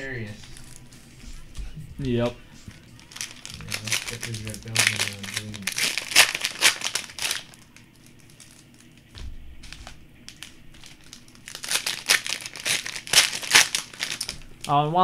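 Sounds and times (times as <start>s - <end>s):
plastic wrapping crinkling: 0.2s - 1.1s, 2.7s - 14.9s
plastic wrapping tearing: 0.4s - 0.9s, 3.0s - 14.8s.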